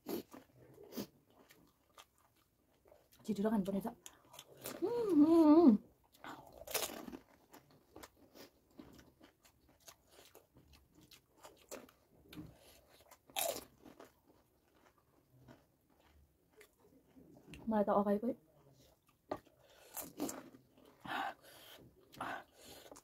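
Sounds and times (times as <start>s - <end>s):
people chewing crunchy food: 0.0s - 17.7s, 18.5s - 23.0s.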